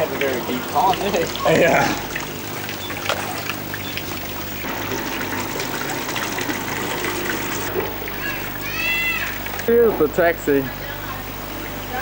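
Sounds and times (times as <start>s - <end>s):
fountain water splashing: 0.0s - 12.0s
low steady hum: 0.0s - 12.0s.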